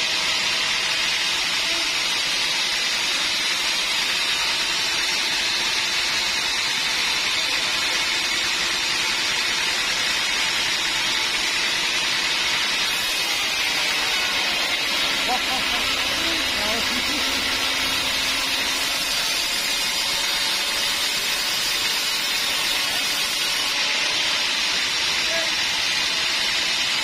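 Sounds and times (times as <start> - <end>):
sawmill saw running: 0.0 - 27.0.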